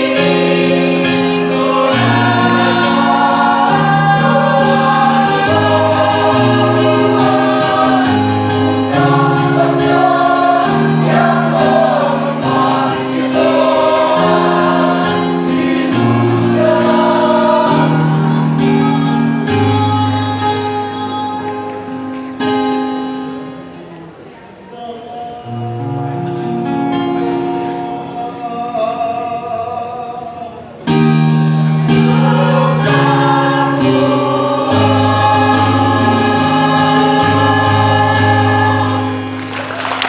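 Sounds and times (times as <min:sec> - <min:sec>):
choir singing in harmony: 0:00.0 - 0:21.4, 0:24.7 - 0:40.0.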